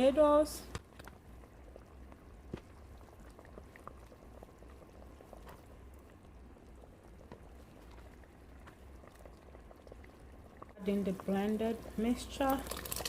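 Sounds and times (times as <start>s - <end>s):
soup simmering with bubbling: 0.6s - 13.0s.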